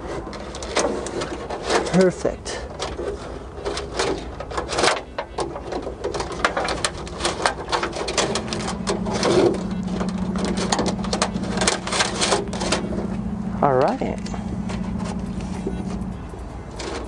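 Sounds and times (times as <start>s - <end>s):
cable scraping against metal: 0.0s - 17.0s
steady low hum: 0.0s - 17.0s.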